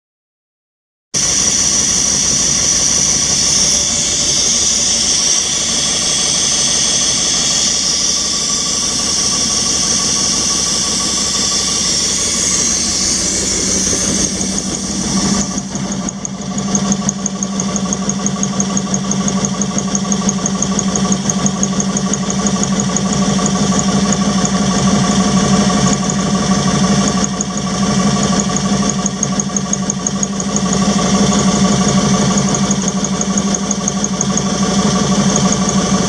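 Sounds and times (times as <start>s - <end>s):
air compressor engine running: 1.2s - 36.0s.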